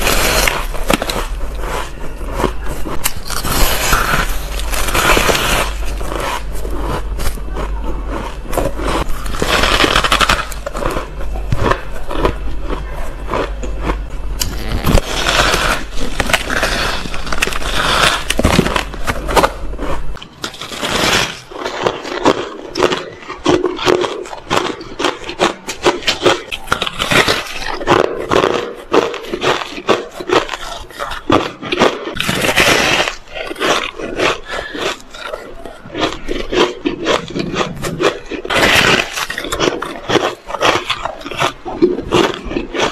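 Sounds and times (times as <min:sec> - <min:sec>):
low hum: 0:00.0 - 0:42.7
biting and chewing ice: 0:00.0 - 0:42.9.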